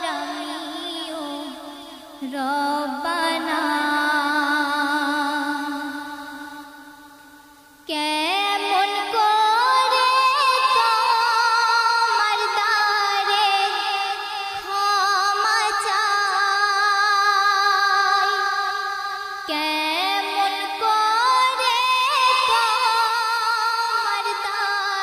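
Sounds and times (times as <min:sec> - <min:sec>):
woman singing devotional song: 0:00.0 - 0:25.0.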